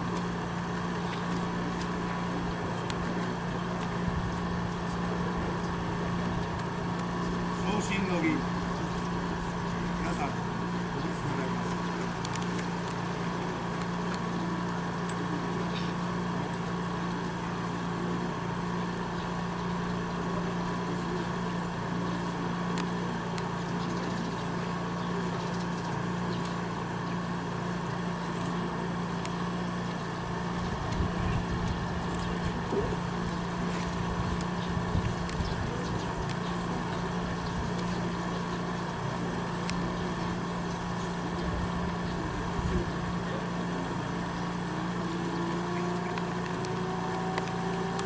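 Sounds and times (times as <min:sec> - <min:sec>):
low mechanical hum: 0:00.0 - 0:48.0.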